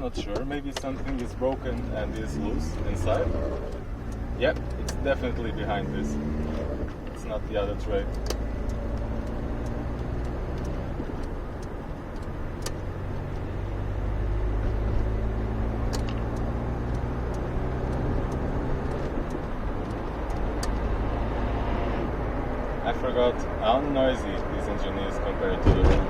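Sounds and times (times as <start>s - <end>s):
car engine running: 0.0s - 26.0s
tyre and road noise: 0.0s - 26.0s.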